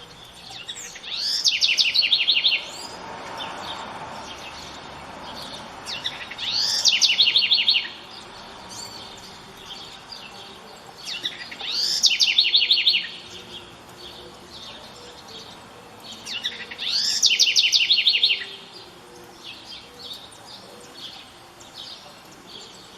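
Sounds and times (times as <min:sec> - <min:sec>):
wren singing: 0:00.0 - 0:22.9.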